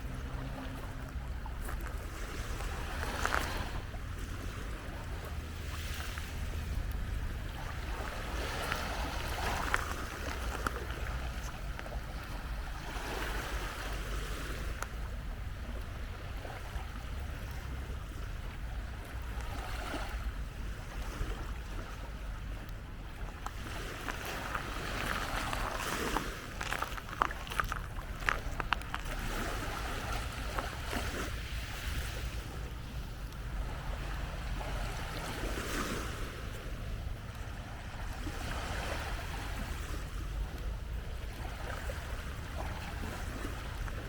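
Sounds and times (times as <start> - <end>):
waves washing onto beach: 0.0 - 44.0
wind rumble on microphone: 0.0 - 44.0.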